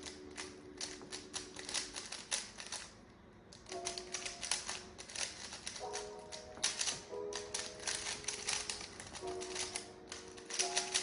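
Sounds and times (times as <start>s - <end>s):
puzzle cube clicking: 0.0s - 11.0s.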